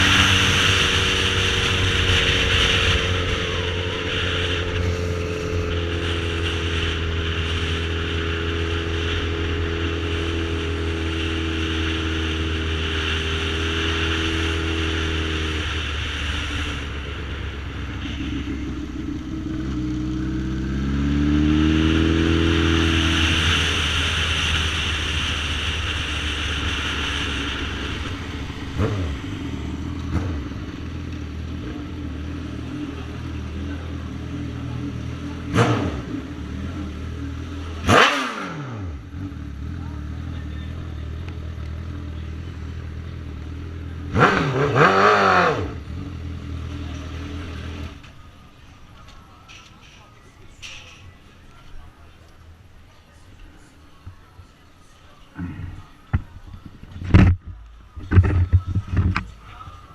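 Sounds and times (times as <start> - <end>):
motorcycle engine revving: 0.0 - 48.2.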